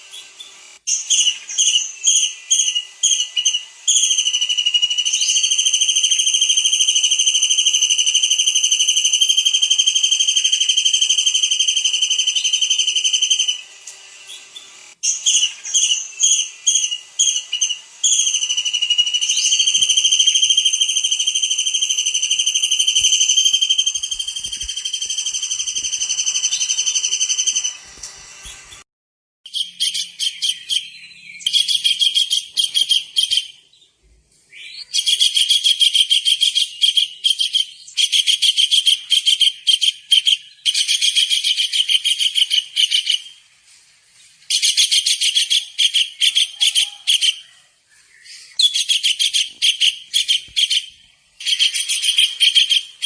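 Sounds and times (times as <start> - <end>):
bird chirps and trill: 0.0 - 27.8, 29.5 - 33.9, 34.5 - 43.4, 44.5 - 53.0.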